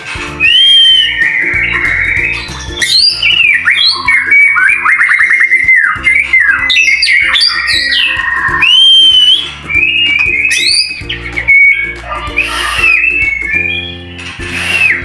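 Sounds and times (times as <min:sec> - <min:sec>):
background guitar music: 0:00.0 - 0:15.0
bird rattling trill: 0:00.0 - 0:15.0
bird singing whistled phrases: 0:00.4 - 0:15.0.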